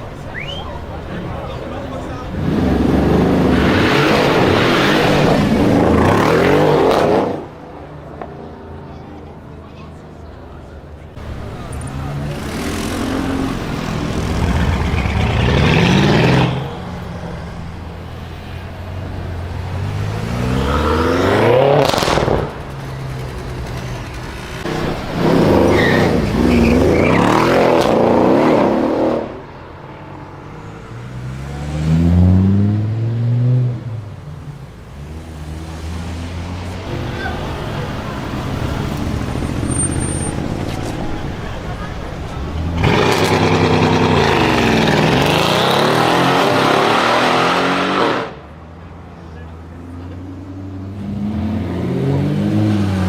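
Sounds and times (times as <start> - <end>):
loud car engine revving: 1.7 - 7.6, 11.2 - 29.5, 30.8 - 34.2, 35.0 - 48.6, 49.6 - 53.0.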